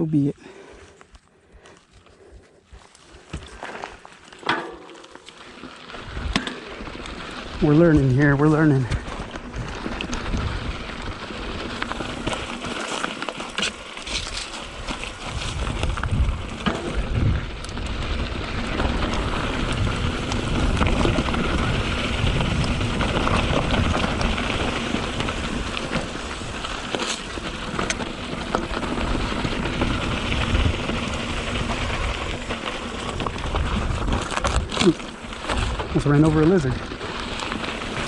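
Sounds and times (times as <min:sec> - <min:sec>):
stones and bike rattling: 0:00.0 - 0:38.0
tyre and wind noise: 0:01.9 - 0:38.0.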